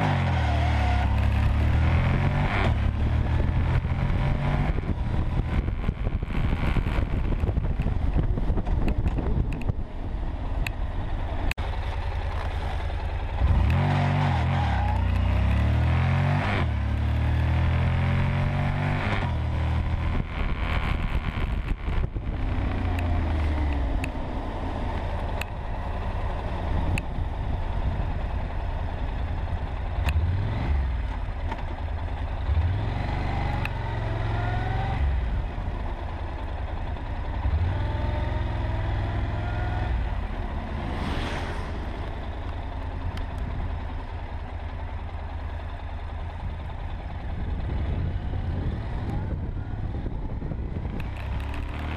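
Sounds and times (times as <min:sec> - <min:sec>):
motorcycle engine revving: 0:00.0 - 0:51.9
wind rumble: 0:01.0 - 0:12.0, 0:15.0 - 0:51.9.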